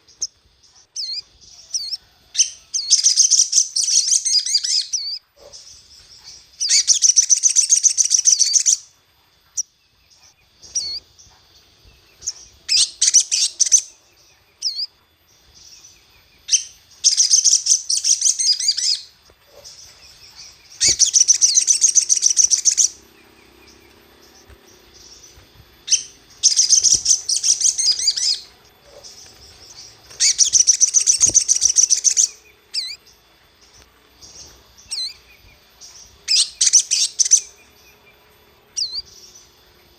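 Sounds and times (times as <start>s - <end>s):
single bird chirps: 0.0s - 8.8s, 9.5s - 11.1s, 12.2s - 39.6s
bird twittering: 0.0s - 39.9s.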